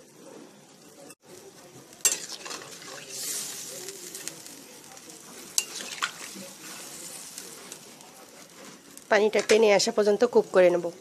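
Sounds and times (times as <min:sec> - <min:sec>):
gravy sizzling: 0:00.0 - 0:11.0.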